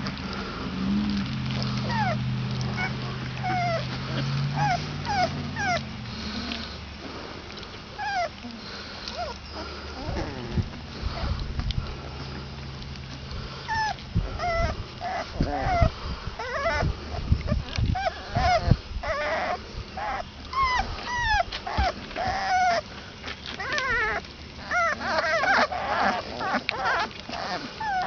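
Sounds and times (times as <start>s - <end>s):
puppies whimpering and squeaking: 1.0s - 6.9s, 7.5s - 28.0s.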